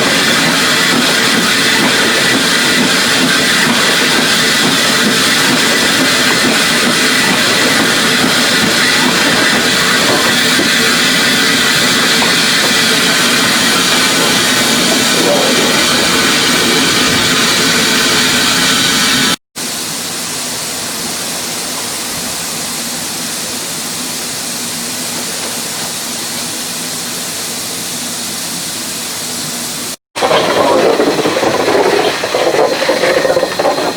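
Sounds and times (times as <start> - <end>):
steam locomotive hissing steam: 0.0 - 33.9.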